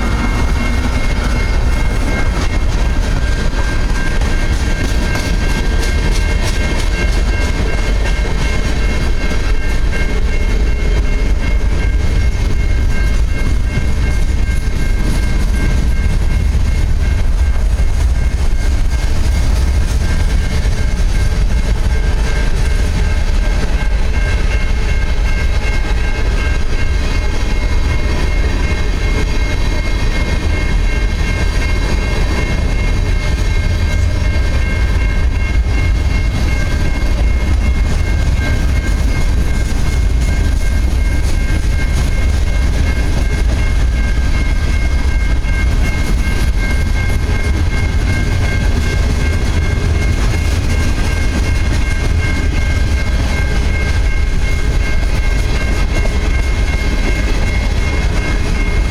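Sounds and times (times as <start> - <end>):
high-pitched ring: 0.0 - 58.9
train wheels rumbling on rails: 0.0 - 58.9.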